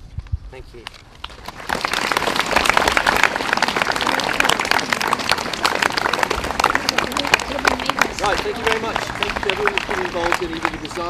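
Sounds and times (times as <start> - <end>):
crowd applauding: 1.2 - 11.0.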